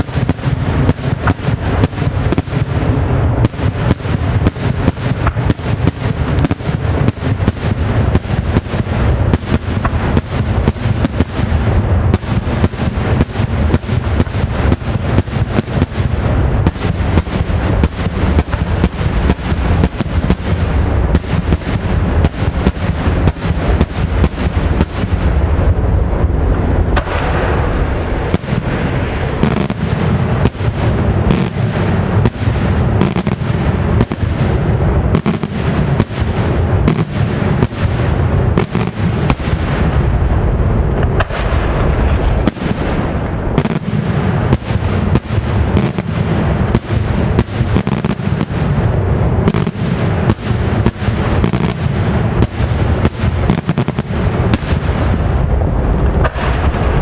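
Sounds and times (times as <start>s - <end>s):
fireworks bangs: 0.0s - 57.0s
low rumble: 0.6s - 47.8s, 48.5s - 57.0s.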